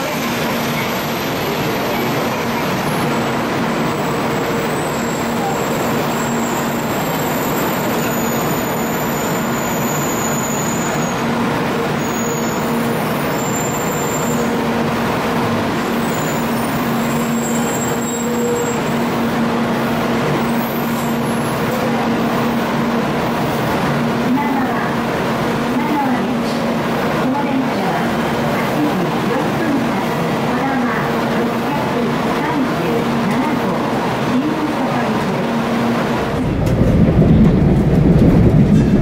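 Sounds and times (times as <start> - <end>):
busy station platform hum: 0.0 - 39.0.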